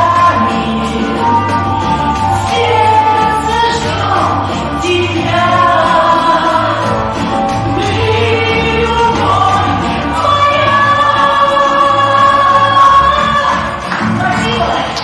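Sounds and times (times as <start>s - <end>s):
backing track with repeating bass: 0.0s - 15.0s
woman singing: 0.0s - 15.0s.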